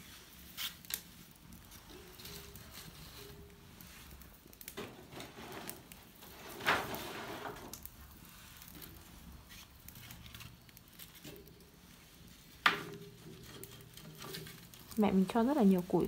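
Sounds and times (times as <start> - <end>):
fire crackling: 0.0 - 16.0
firewood scraping and knocking: 0.2 - 16.0.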